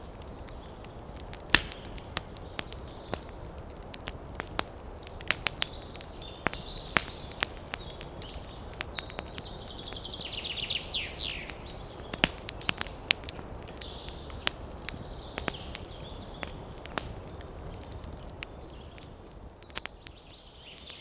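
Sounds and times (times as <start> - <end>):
small birds chirping: 0.0 - 21.0
wood fire crackling and popping: 0.0 - 21.0.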